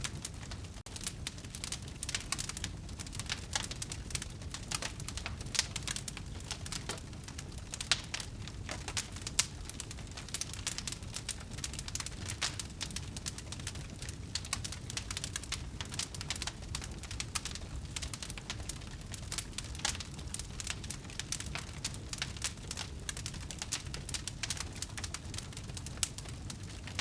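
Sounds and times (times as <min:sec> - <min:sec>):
low rumble of burning fire: 0:00.0 - 0:27.0
wood fire crackling: 0:00.0 - 0:27.0.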